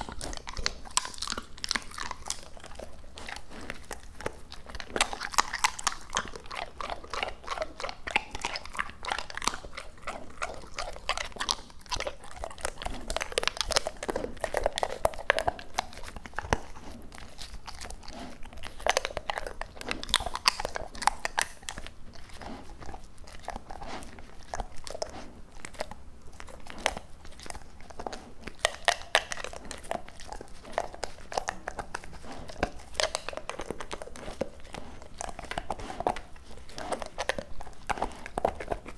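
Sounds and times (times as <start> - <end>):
dog chewing meat: 0.0 - 38.9.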